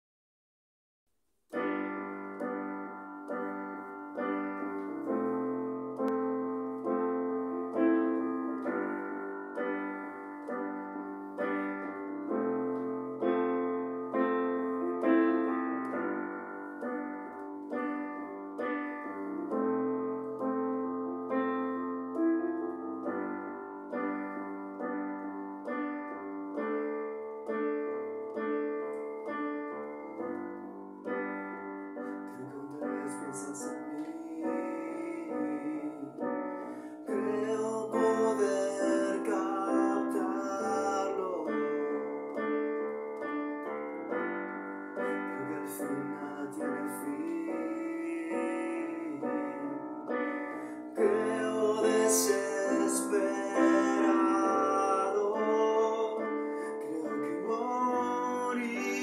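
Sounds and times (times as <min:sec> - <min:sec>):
solo piano chords: 0:01.5 - 0:59.0.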